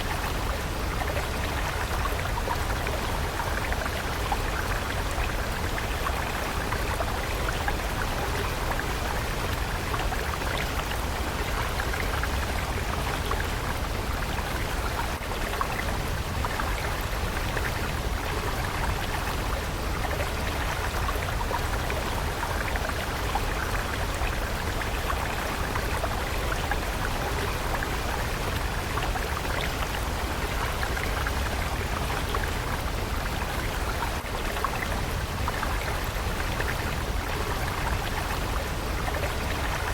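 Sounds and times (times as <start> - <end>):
water stream babbling: 0.0 - 39.9.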